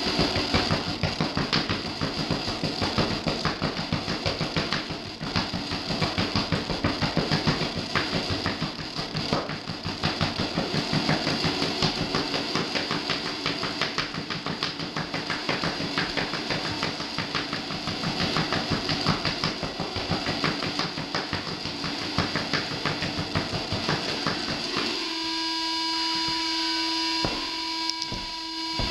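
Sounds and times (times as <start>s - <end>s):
throbbing electronic noise music: 0.0s - 28.9s.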